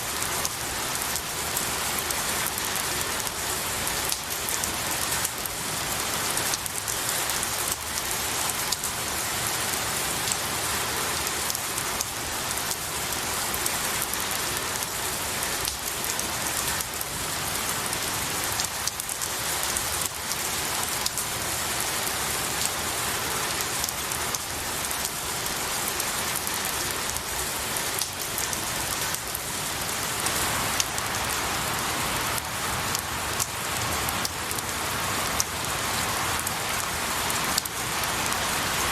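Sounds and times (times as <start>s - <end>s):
rain pattering on trees: 0.0s - 38.9s.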